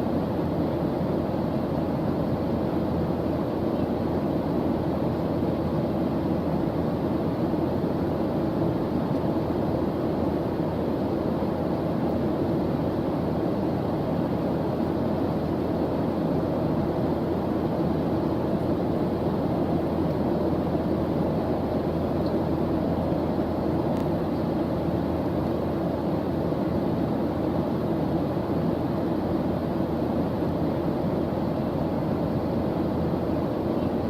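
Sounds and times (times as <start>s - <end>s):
deep white noise: 0.0s - 34.0s.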